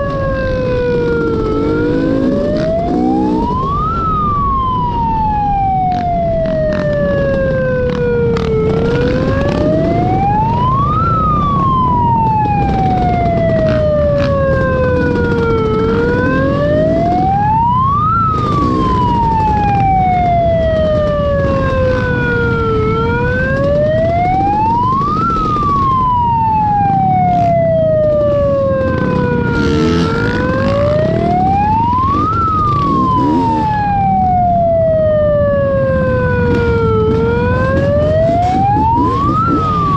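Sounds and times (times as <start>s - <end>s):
atv engines rumbling: 0.0s - 39.9s
siren wailing: 0.0s - 39.9s
wind: 0.0s - 39.9s.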